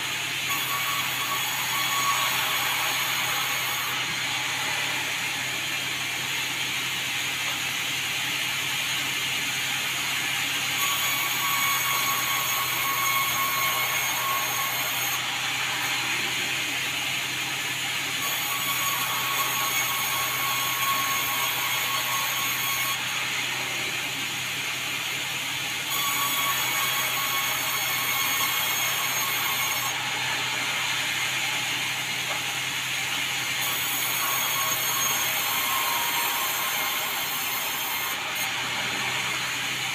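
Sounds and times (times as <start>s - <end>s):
sawmill saw cutting logs: 0.0s - 39.9s.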